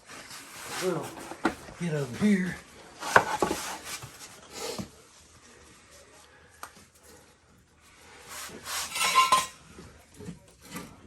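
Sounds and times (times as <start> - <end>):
scraping and rustling: 0.0 - 5.5, 7.1 - 11.0.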